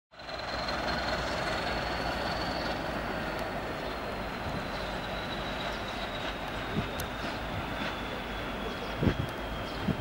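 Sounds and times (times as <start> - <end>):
locomotive engine drone: 0.1 - 10.0
steady high whine: 0.2 - 10.0.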